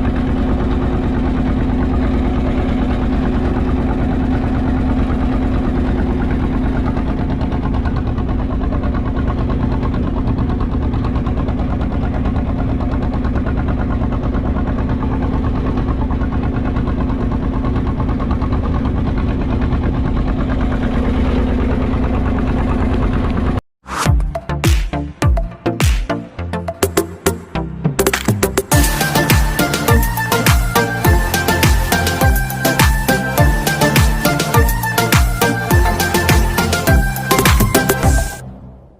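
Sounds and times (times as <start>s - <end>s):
boat engine throbbing: 0.0s - 38.9s.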